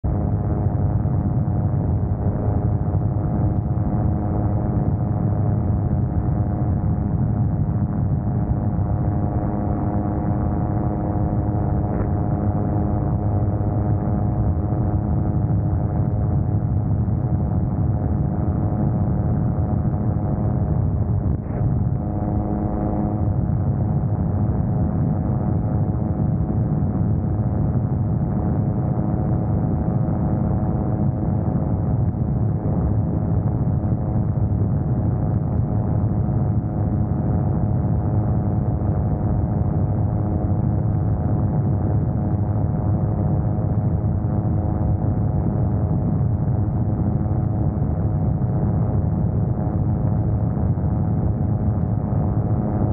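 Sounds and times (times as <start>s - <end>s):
aircraft engine and propeller drone: 0.1s - 52.9s.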